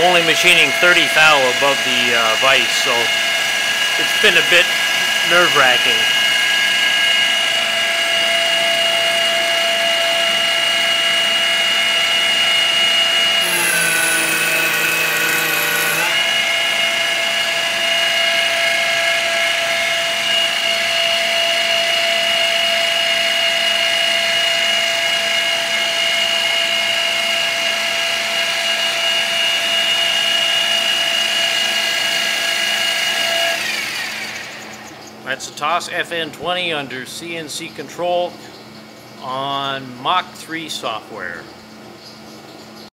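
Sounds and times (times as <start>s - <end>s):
milling machine whine: 0.0s - 35.2s.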